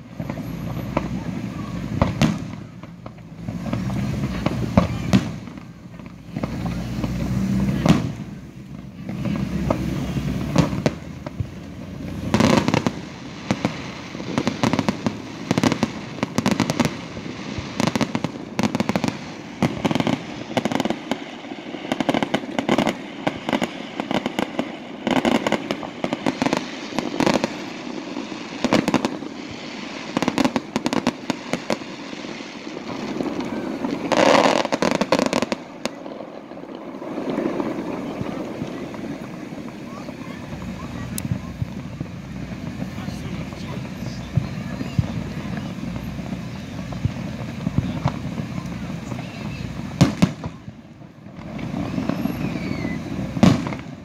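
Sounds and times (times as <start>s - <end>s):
fireworks popping and banging: 0.0s - 54.0s.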